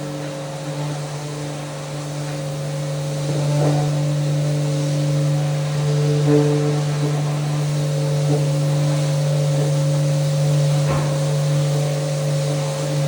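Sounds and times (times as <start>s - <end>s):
electric power sander: 0.0s - 13.0s.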